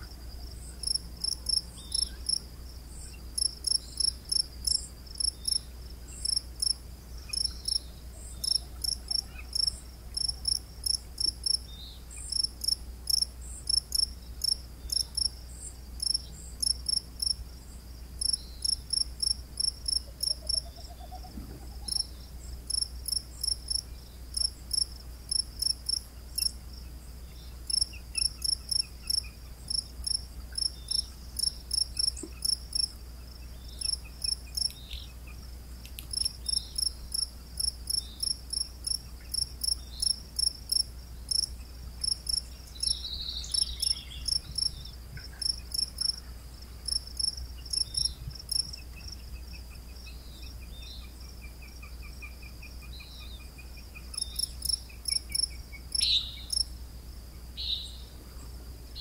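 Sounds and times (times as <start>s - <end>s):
cricket chirping: 0.0s - 59.0s
low steady hum: 0.0s - 59.0s.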